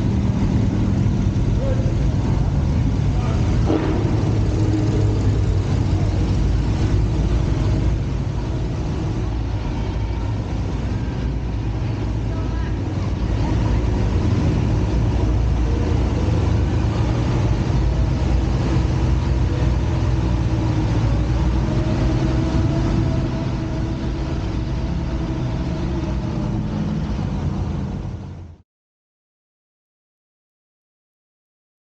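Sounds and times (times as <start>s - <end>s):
vehicle engine droning: 0.0s - 28.6s.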